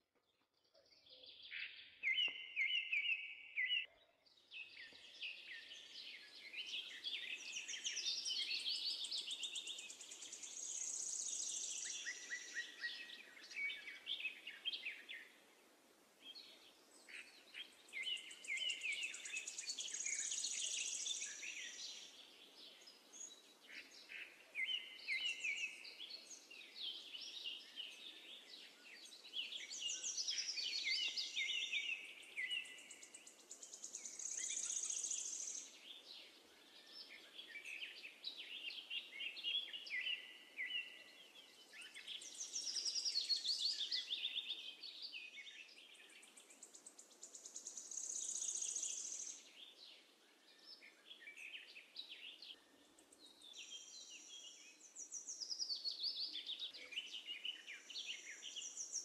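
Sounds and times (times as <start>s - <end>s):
birdsong chirps and trills: 0.5s - 15.5s, 16.2s - 59.0s
faint background hiss: 4.2s - 59.0s.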